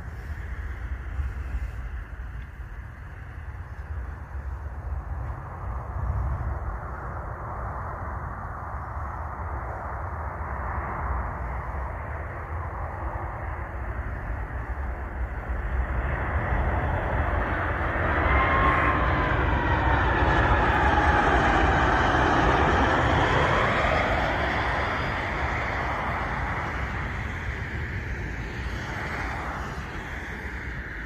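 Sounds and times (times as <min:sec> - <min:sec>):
jet plane flying past low: 0:00.0 - 0:31.0.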